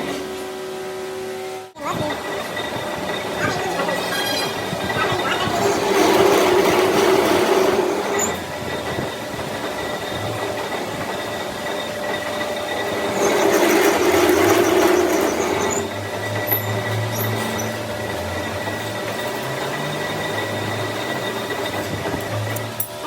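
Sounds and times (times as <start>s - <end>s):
workshop machine humming and whining: 0.0s - 23.0s.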